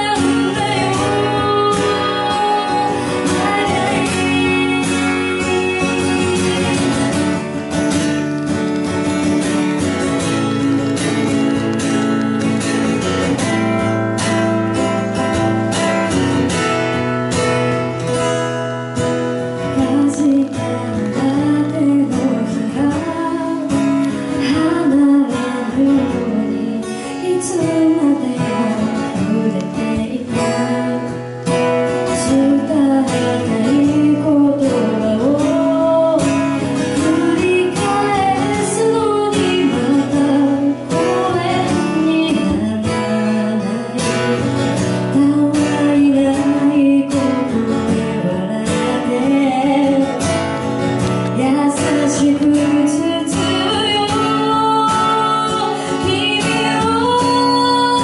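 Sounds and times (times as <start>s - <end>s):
strummed acoustic guitar: 0.0s - 58.0s
woman singing pop song: 0.0s - 58.0s.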